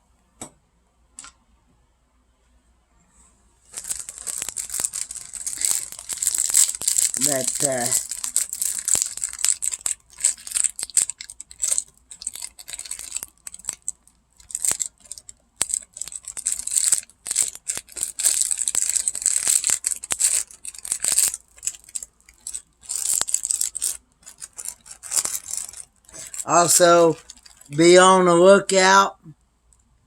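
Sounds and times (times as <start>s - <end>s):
small clicks and crunches: 3.7s - 27.8s
plastic packaging crinkling: 3.7s - 28.0s.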